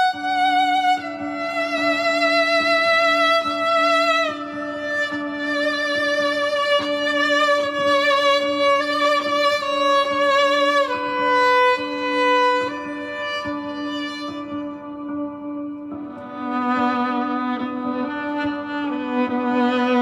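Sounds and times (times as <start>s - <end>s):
solo viola melody: 0.0s - 20.0s.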